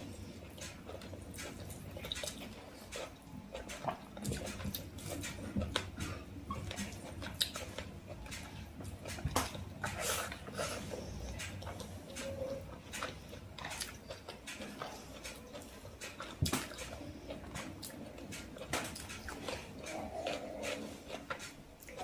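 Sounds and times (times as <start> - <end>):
person chewing: 0.0 - 22.0
mouth clicks and smacks: 0.5 - 22.0.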